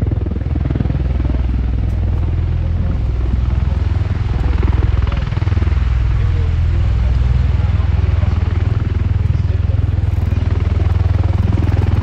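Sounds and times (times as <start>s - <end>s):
tiltrotor aircraft rotors droning: 0.0s - 12.0s.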